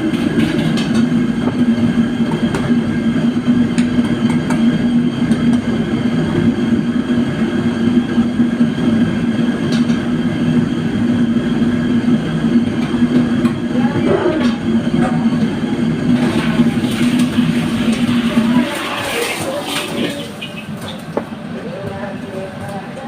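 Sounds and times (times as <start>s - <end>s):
loud machine hum: 0.0s - 23.0s.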